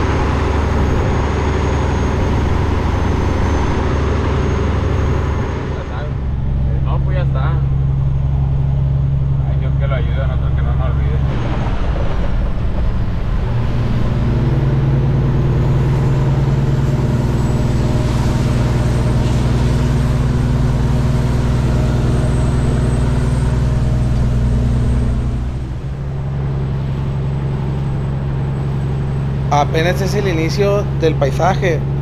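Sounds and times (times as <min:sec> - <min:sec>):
road noise: 0:00.0 - 0:32.0
truck diesel engine droning: 0:00.0 - 0:32.0.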